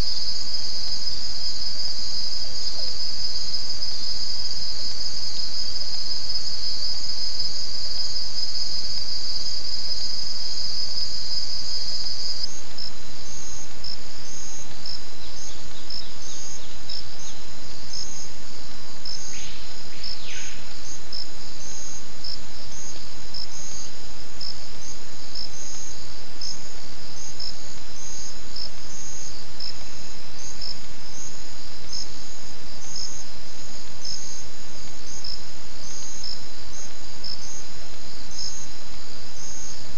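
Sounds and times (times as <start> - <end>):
insects buzzing and chirping: 0.0 - 39.9.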